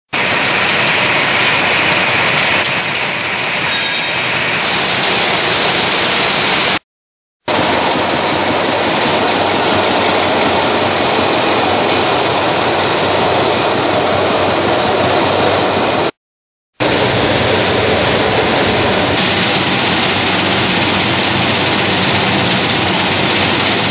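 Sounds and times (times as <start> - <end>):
vibratory conveyor rattling and humming: 0.1 - 6.8, 7.5 - 16.2, 16.8 - 23.9.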